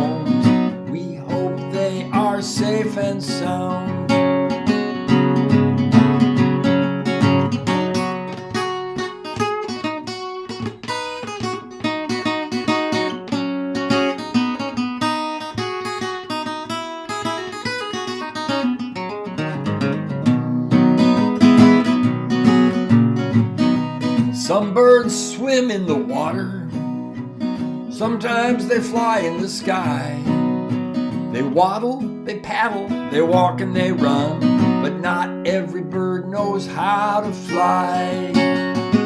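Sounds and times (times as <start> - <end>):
acoustic guitar strumming and picking: 0.0 - 39.0.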